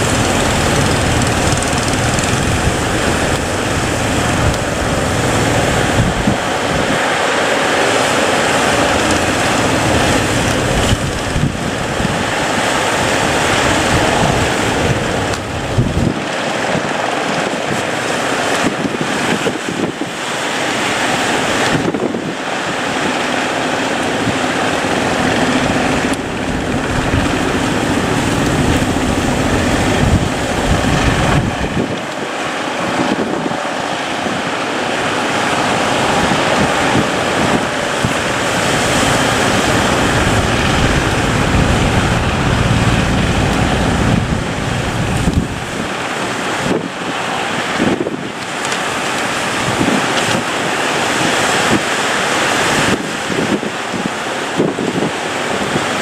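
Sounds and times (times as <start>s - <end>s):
boat engine running: 0.0s - 56.0s
waves breaking: 0.0s - 56.0s
wind buffeting microphone: 0.0s - 56.0s.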